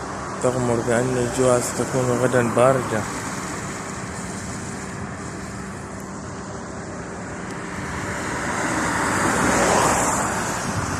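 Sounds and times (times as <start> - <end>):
road traffic in the rain: 0.0 - 10.9
vehicle approaching: 0.0 - 10.9.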